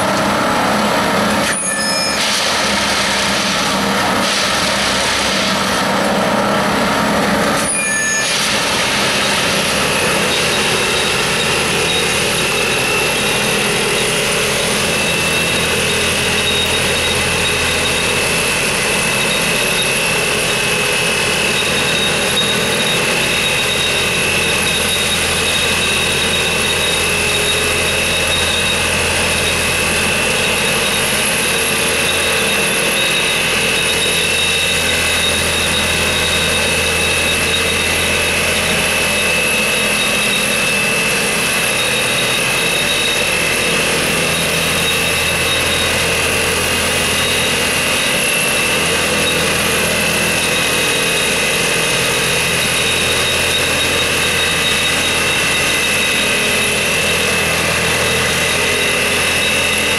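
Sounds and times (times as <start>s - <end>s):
machine drone with high whine: 0.0s - 59.9s.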